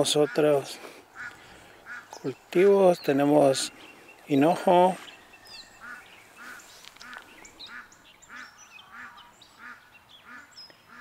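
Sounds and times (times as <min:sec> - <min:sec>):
high chirps of small birds: 0:00.0 - 0:11.0
repeated bird calls: 0:00.0 - 0:11.0.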